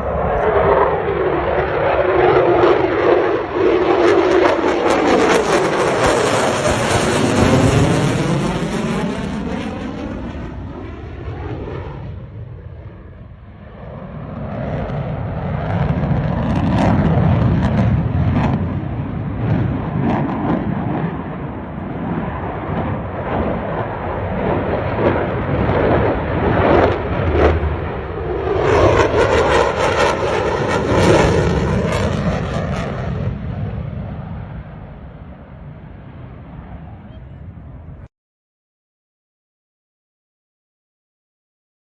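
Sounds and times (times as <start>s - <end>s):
jet fighter flying past: 0.0s - 38.1s.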